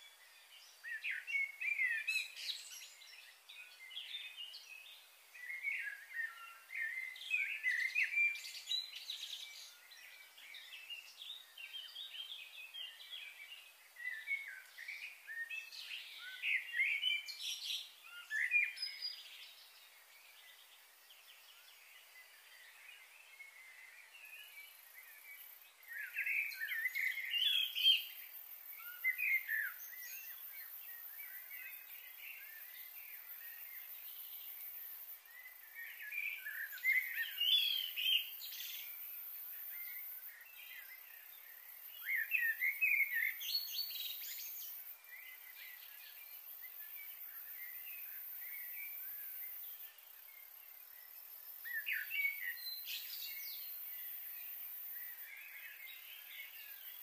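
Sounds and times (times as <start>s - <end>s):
faint high hiss: 0.0s - 57.0s
songbirds chirping: 0.0s - 57.0s.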